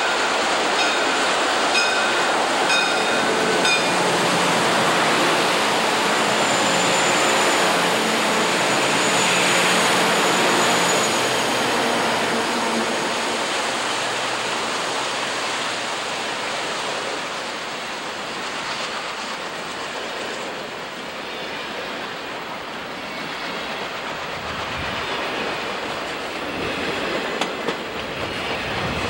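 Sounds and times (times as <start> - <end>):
diesel locomotive engine hum: 0.0 - 29.0.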